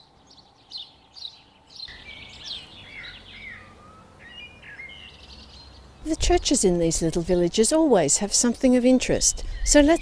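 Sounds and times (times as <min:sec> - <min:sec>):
bird warbling song: 0:00.0 - 0:10.0
small birds chirping: 0:00.0 - 0:10.0.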